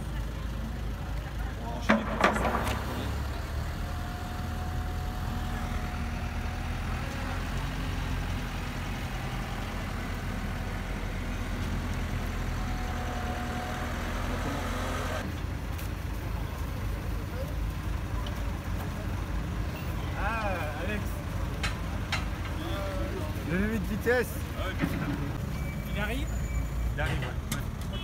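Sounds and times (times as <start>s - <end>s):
work vehicle engine rumbling: 0.0s - 28.0s.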